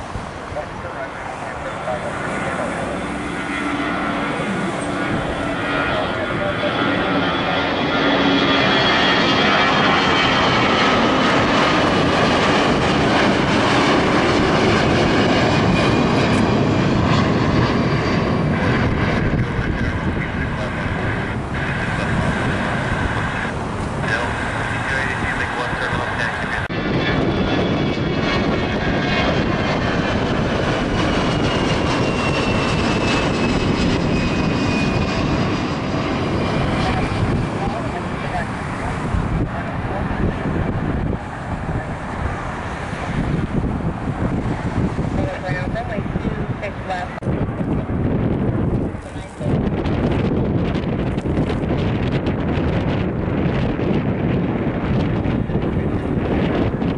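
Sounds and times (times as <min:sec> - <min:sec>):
faint high jet whine: 0:00.0 - 0:49.5
jet airliner engines roaring: 0:00.0 - 0:56.9.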